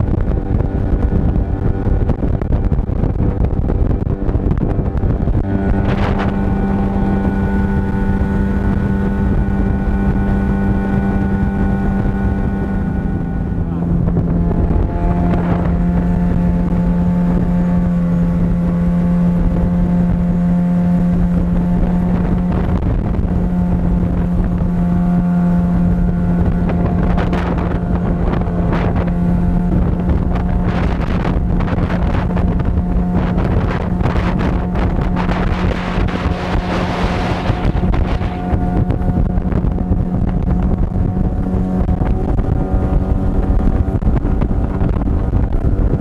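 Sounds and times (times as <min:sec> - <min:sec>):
outboard motor running: 0:00.0 - 0:46.0
wind buffeting microphone: 0:00.0 - 0:46.0.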